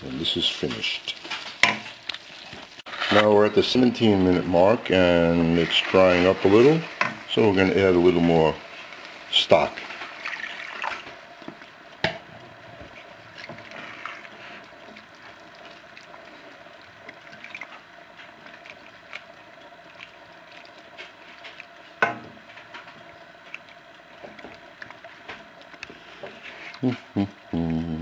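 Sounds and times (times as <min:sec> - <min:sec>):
risotto simmering and bubbling: 0:00.0 - 0:28.0
wooden spoon stirring rice: 0:00.2 - 0:26.8.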